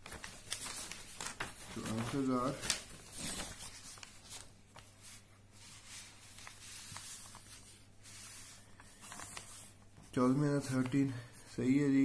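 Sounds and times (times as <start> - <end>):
book pages turning: 0.0 - 11.1.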